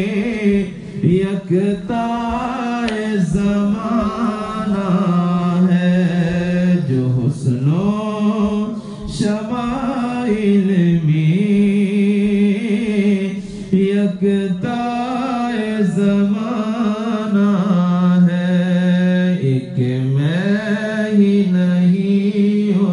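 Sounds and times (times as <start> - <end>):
man singing into a microphone: 0.0 - 22.9.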